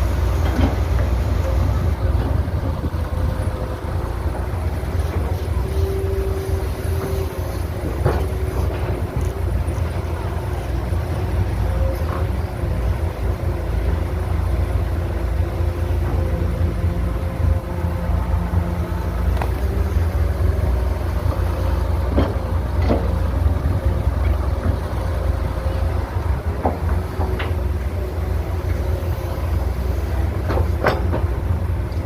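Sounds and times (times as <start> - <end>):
diesel engine rumbling under load: 0.0 - 32.0.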